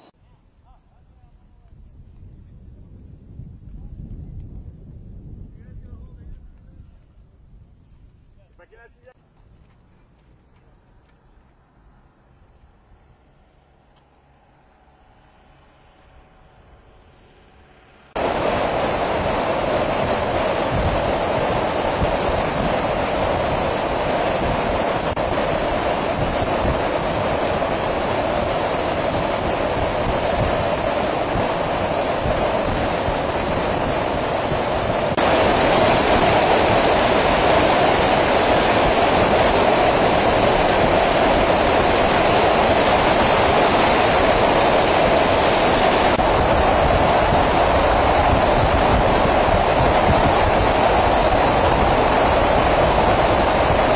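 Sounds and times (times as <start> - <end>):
aircraft engines and airflow rushing: 9.0 - 53.9.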